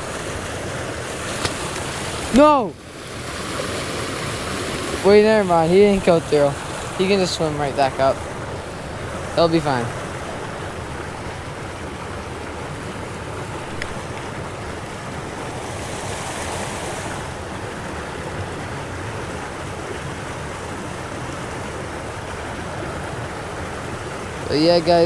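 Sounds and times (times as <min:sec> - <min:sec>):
moving water: 0:00.0 - 0:25.0
wind: 0:00.0 - 0:25.0.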